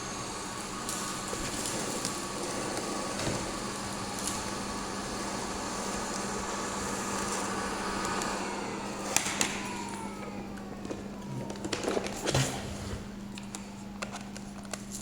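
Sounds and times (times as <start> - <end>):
robot vacuum whirring: 0.0 - 13.1.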